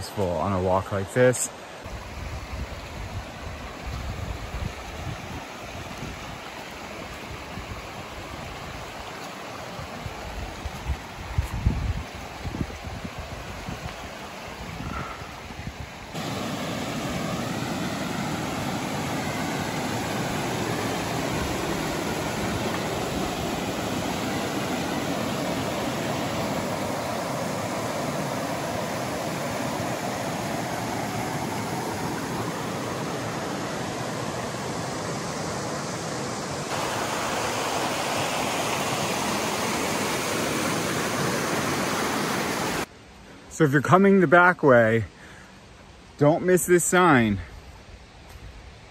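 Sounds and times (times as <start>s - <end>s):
creek water rushing over rocks: 0.0s - 42.9s.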